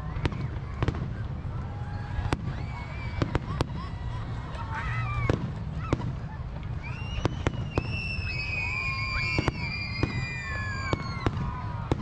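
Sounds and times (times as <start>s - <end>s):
fireworks whistling: 0.0s - 4.2s, 4.9s - 12.0s.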